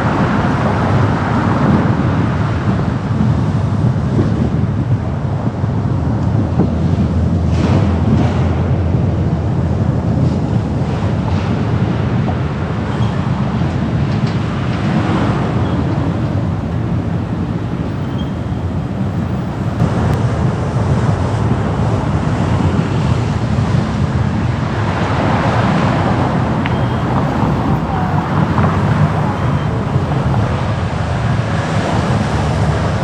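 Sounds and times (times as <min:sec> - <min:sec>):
car driving through traffic: 0:00.0 - 0:33.0
wind on microphone: 0:00.0 - 0:33.0.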